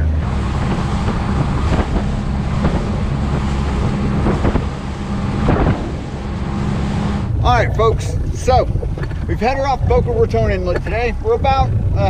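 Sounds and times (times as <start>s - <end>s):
motorboat engine hum: 0.0s - 12.0s
water rushing past hull: 0.0s - 12.0s
wind on microphone: 0.0s - 12.0s
hull knocking on waves: 0.2s - 12.0s.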